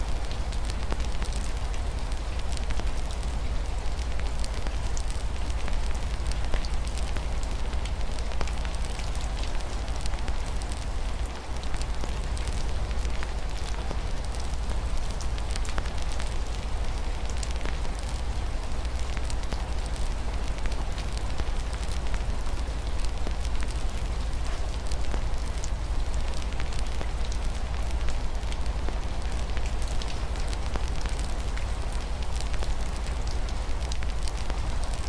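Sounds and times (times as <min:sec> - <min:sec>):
rain hissing: 0:00.0 - 0:35.0
wood fire crackling: 0:00.0 - 0:35.0.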